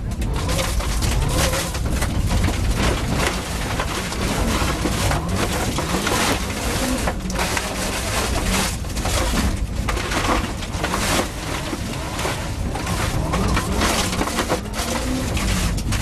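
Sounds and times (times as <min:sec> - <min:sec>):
rally car engine from inside cabin: 0:00.0 - 0:16.0
stones rattling against underbody: 0:00.0 - 0:16.0.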